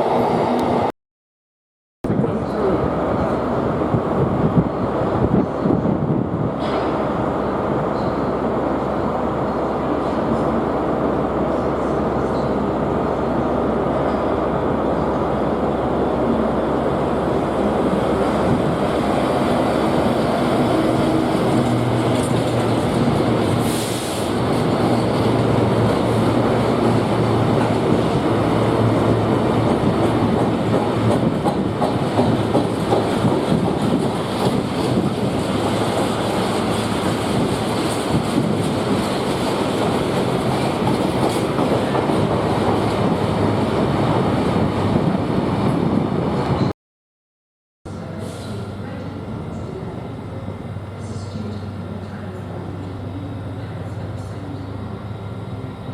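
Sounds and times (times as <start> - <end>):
freight train passing: 2.1 - 46.7, 47.9 - 55.9.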